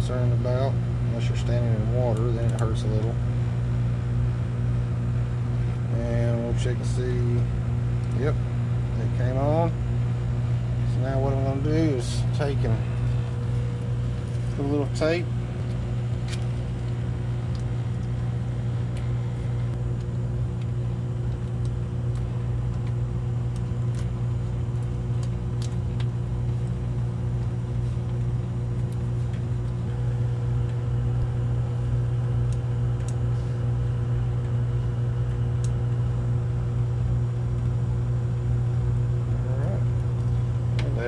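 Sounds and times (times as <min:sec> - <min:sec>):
air handler humming: 0:00.0 - 0:41.0.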